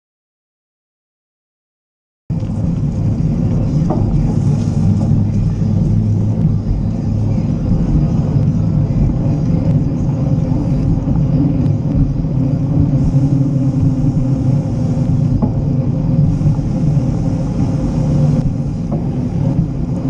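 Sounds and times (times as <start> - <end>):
bike tyres rolling on pavement: 2.3 - 20.0
wind buffeting the microphone: 2.3 - 20.0.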